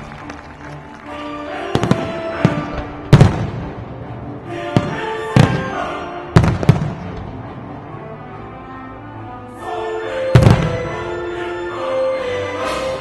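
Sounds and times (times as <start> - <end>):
music with held notes: 0.0 - 13.0.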